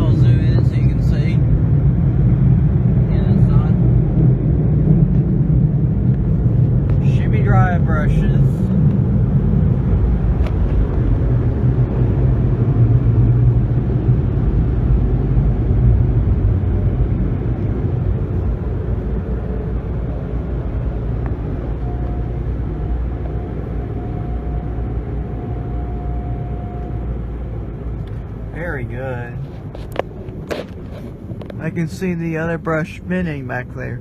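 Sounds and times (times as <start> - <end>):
car wash blowers roaring: 0.0 - 34.0.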